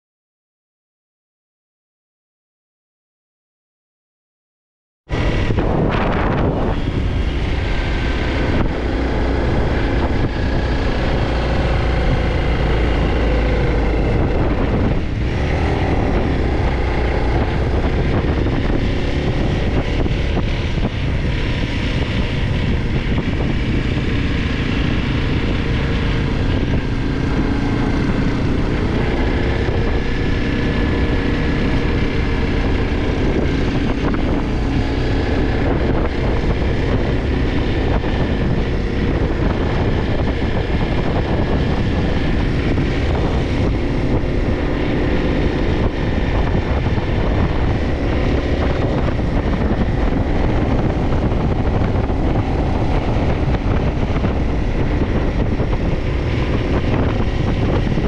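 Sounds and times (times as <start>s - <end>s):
dirt bike engine running: 5.1s - 58.0s
wind rushing over microphone: 5.1s - 58.0s.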